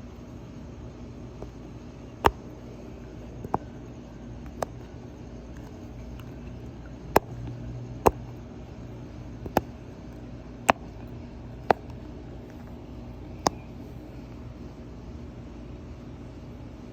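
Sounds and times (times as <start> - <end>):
low background hum: 0.0 - 16.9.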